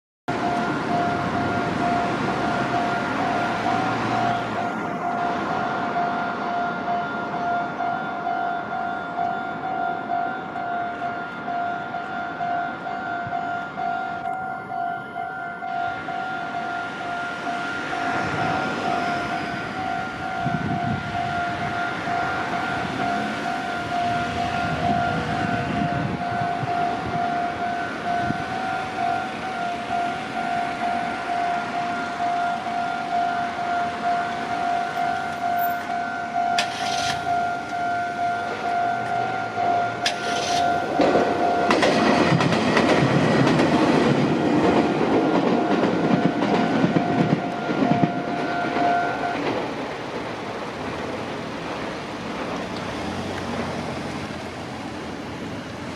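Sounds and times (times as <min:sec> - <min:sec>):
electric train passing: 0:00.3 - 0:55.9
level-crossing warning bell: 0:00.3 - 0:55.9.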